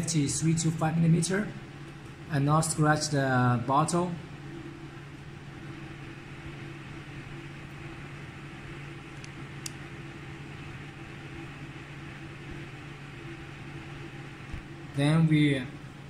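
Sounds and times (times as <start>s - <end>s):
fan-like hiss: 0.0s - 16.0s
machine hum: 0.0s - 16.0s.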